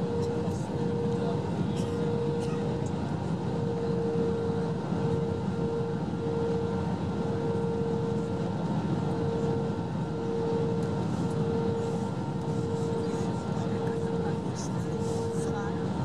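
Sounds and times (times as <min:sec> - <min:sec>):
airflow rush and engine drone: 0:00.0 - 0:16.0.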